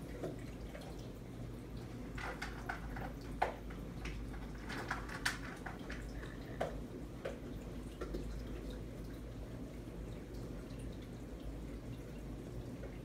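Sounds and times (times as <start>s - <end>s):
water dripping and trickling: 0.0s - 13.0s.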